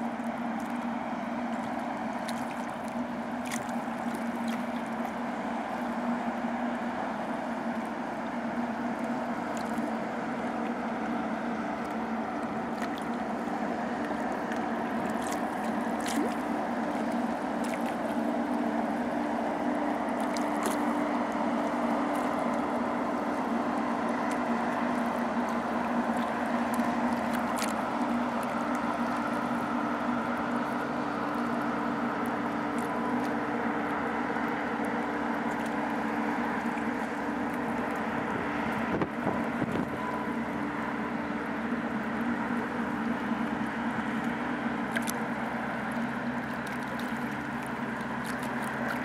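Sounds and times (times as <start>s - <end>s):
ship machinery humming: 0.0s - 49.0s
wash rushing on water: 0.0s - 49.0s.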